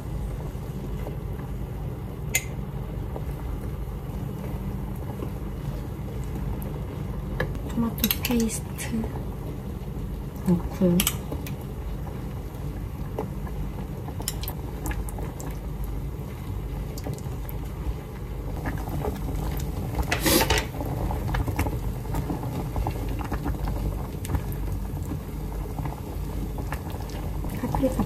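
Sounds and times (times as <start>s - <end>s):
sauce bubbling in a pan: 0.0s - 8.1s, 9.2s - 28.0s.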